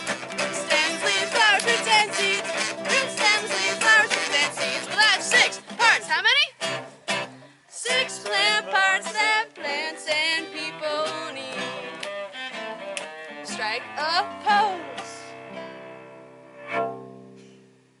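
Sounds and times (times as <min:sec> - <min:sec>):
bowed cello melody: 0:00.0 - 0:05.6, 0:08.2 - 0:17.4
strummed acoustic guitar: 0:00.0 - 0:18.0.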